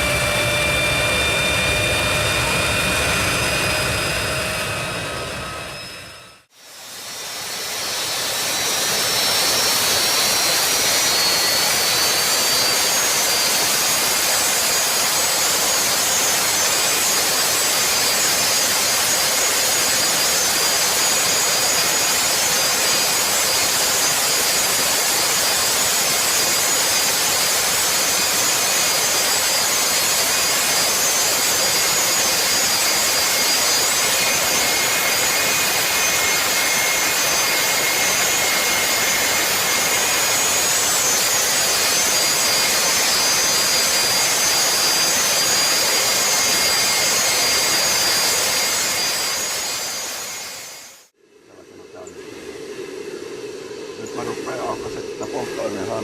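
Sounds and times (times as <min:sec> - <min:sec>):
jet engine running: 0:00.0 - 0:56.0.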